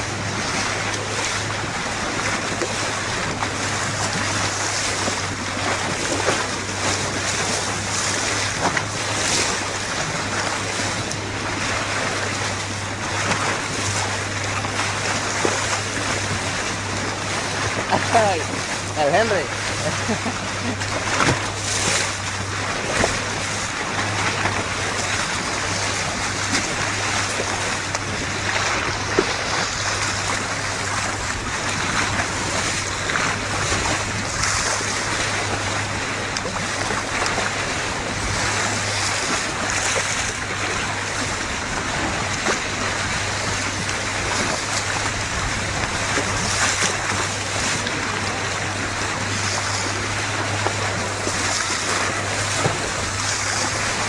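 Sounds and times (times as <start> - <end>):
boat engine hum: 0.0 - 54.0
water splashing along hull: 0.0 - 54.0.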